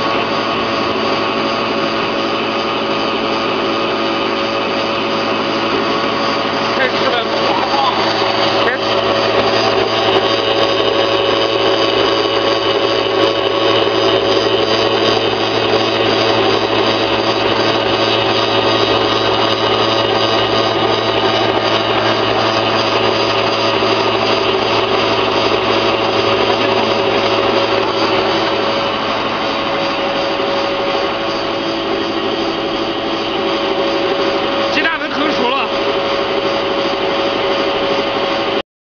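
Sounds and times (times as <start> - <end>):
pellet mill droning: 0.0 - 38.6.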